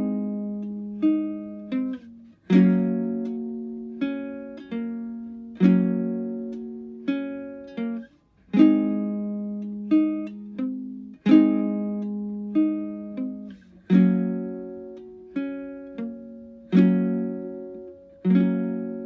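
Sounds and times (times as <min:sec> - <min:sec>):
slow guitar music: 0:00.0 - 0:19.0.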